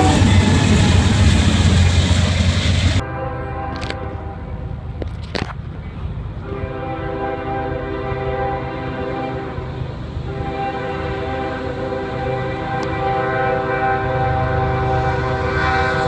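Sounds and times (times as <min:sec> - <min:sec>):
locomotive air horn: 0:00.0 - 0:01.4, 0:02.8 - 0:04.7, 0:06.4 - 0:16.0
train rumbling past: 0:00.0 - 0:16.0.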